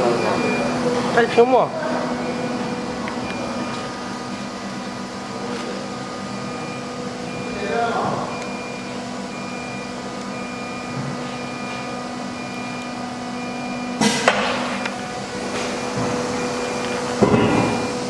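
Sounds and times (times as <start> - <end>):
cnc router machine humming: 0.0 - 18.0.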